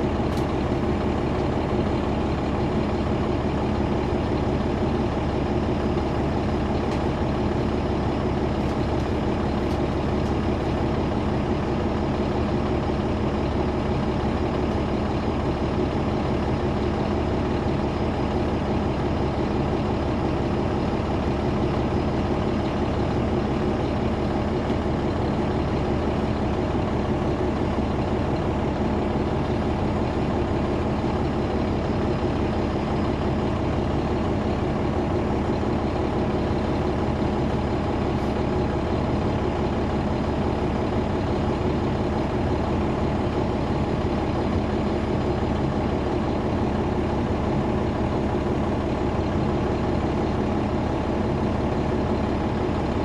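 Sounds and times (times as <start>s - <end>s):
bus diesel engine running: 0.0s - 53.0s
engine cooling fans: 0.0s - 53.0s.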